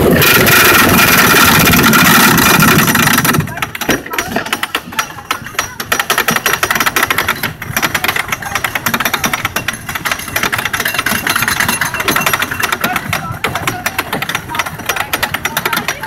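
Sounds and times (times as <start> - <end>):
anti-rollback dogs clacking: 0.0 - 16.0
lift chain rattle: 0.0 - 16.0.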